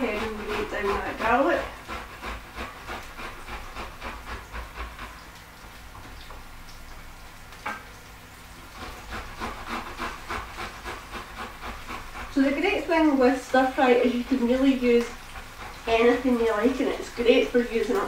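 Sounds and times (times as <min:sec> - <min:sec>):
garlic rasping on a metal grater: 0:00.0 - 0:05.4, 0:08.6 - 0:18.0.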